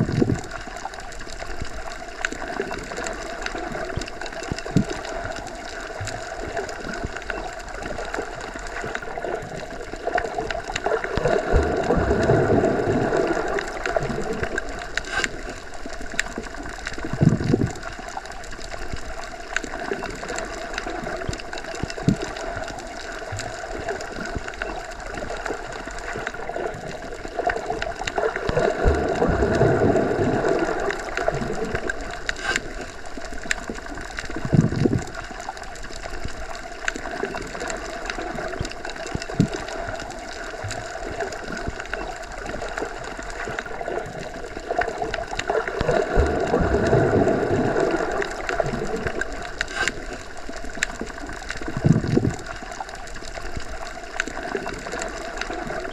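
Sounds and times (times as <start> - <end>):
muffled underwater wash: 0.0 - 55.9.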